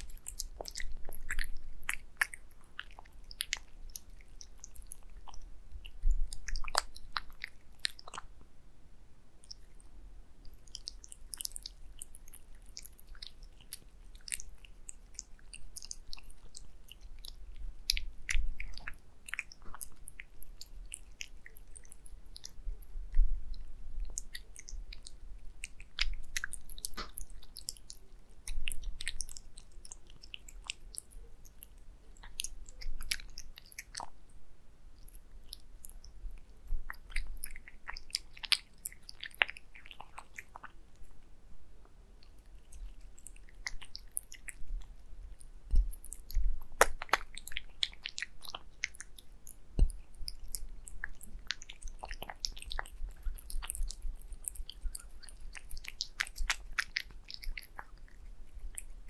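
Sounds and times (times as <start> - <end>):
cat lapping and chewing food: 0.0 - 8.4, 9.3 - 34.3, 34.9 - 41.3, 42.0 - 59.0.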